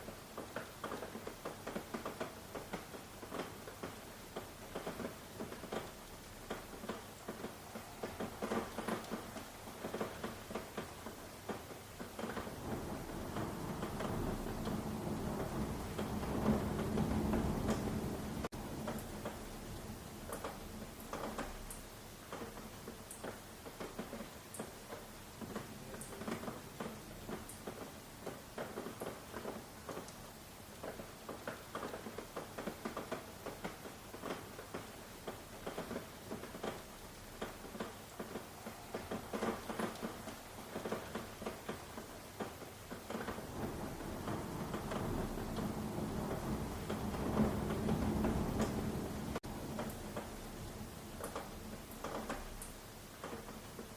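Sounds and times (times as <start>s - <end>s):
rain drops pattering: 0.0s - 53.9s.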